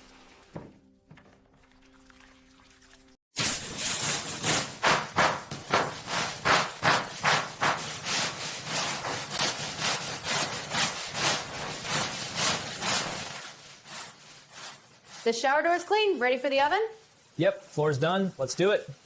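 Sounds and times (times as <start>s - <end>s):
rapid rubbing strokes: 3.4s - 19.0s.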